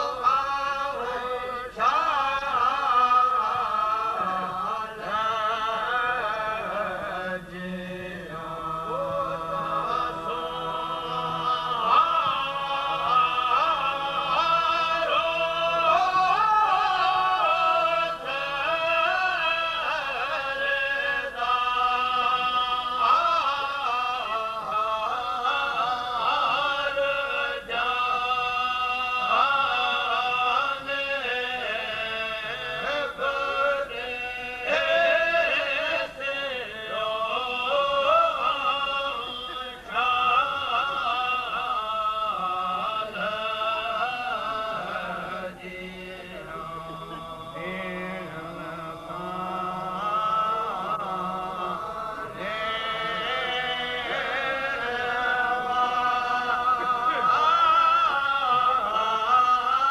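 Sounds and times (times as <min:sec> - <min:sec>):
men chanting a hymn: 0:00.0 - 0:59.9.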